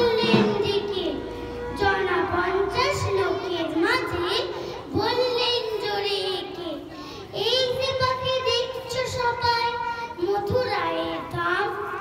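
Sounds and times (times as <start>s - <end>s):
girl reciting through a microphone: 0.0s - 12.0s.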